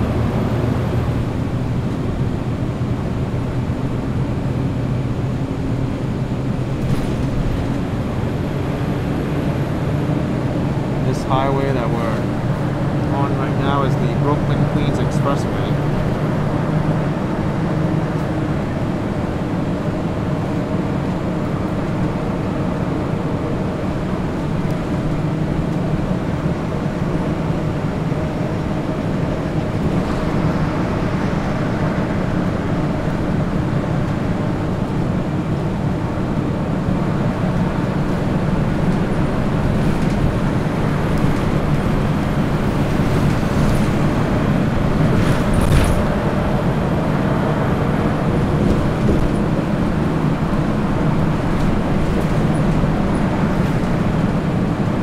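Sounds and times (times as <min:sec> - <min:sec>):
bus engine drone: 0:00.0 - 0:55.0
tyre road noise: 0:00.0 - 0:55.0.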